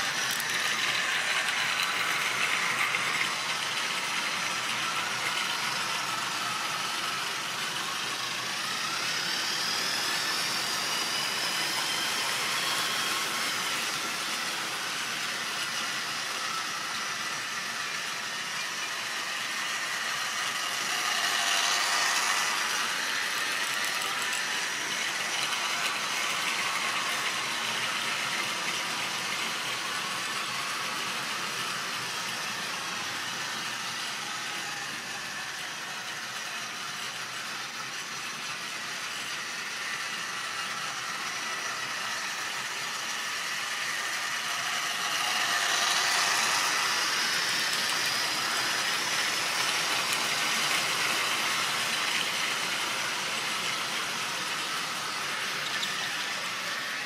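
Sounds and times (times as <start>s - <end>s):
model train wheels rattling: 0.0s - 33.8s, 34.7s - 57.0s
electric motor whine: 0.0s - 57.0s.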